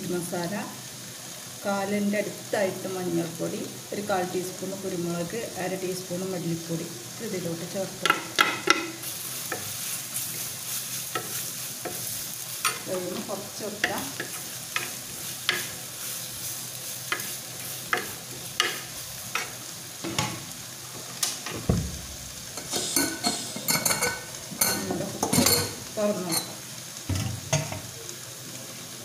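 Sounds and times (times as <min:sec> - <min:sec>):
onions and spices sizzling: 0:00.0 - 0:29.0.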